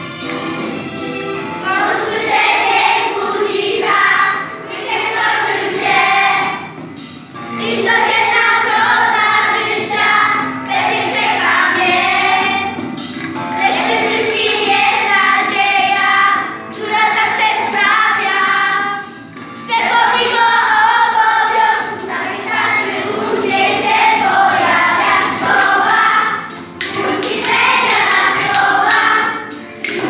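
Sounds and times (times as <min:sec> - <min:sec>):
children singing together: 0:01.4 - 0:30.0.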